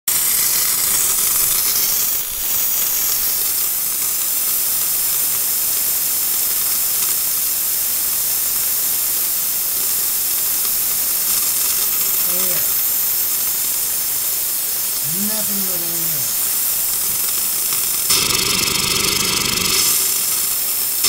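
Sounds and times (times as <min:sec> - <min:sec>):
faucet hissing and spitting water: 0:00.1 - 0:21.0.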